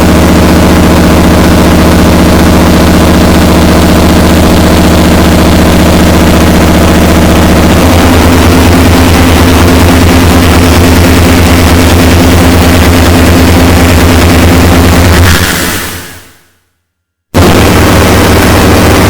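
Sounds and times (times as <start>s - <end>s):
distorted electronic noise drone: 0.0s - 16.7s, 17.4s - 19.0s.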